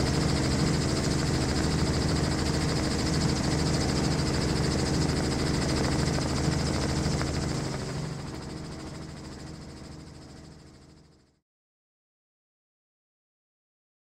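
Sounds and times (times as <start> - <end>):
aircraft engine and rotor noise: 0.0 - 11.4.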